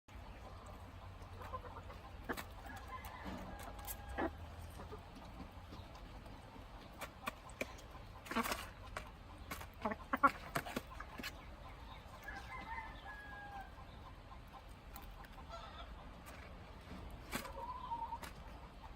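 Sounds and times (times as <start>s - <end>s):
chickens clucking: 0.1s - 18.9s.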